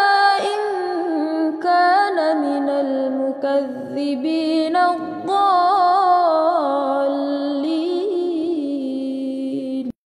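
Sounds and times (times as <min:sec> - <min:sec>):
woman reciting melodically: 0:00.0 - 0:10.0.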